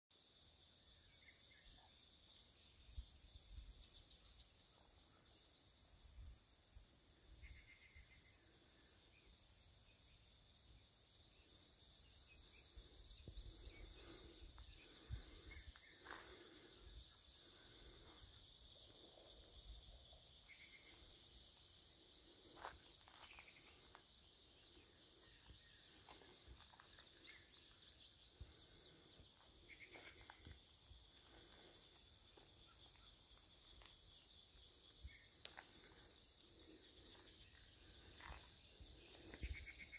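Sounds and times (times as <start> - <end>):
insect chorus drone: 0.2 - 39.9
short insect chirps: 7.4 - 39.9.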